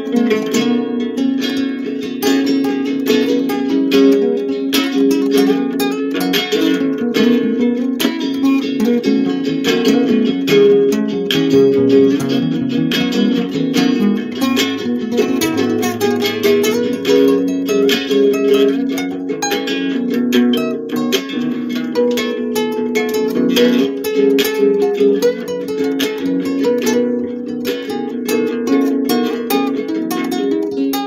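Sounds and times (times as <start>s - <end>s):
acoustic guitar plucked notes: 0.0s - 31.0s.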